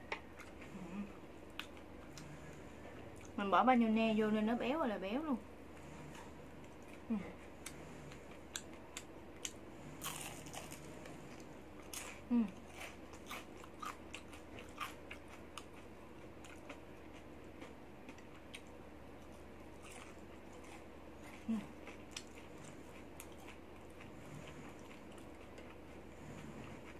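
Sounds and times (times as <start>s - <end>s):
crunching and chewing: 0.1s - 3.4s, 5.8s - 26.9s.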